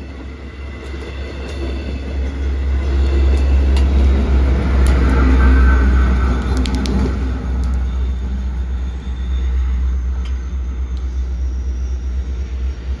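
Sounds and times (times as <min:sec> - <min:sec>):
diesel locomotive deep rumble: 0:00.0 - 0:13.0.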